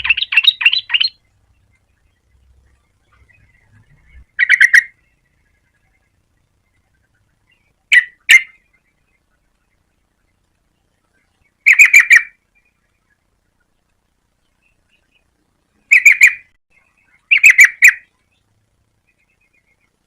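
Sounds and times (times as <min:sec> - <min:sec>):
bulbul calling: 0:00.0 - 0:20.0.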